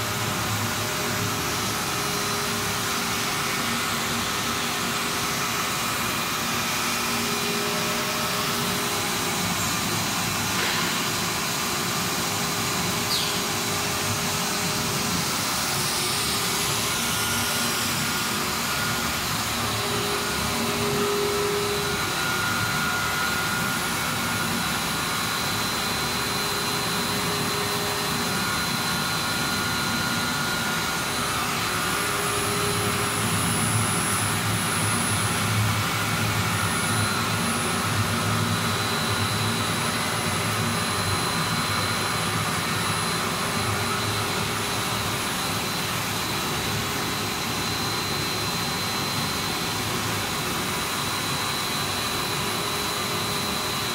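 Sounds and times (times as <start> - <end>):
machine hiss and drone: 0.0 - 53.9.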